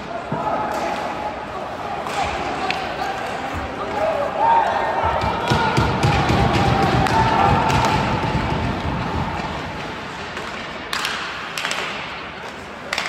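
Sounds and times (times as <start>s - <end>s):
echoing hockey rink noise: 0.0s - 13.0s.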